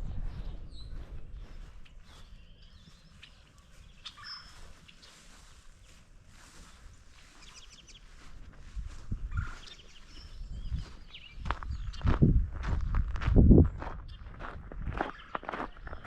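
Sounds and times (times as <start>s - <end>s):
birds chirping: 0.0s - 13.0s, 13.8s - 16.0s.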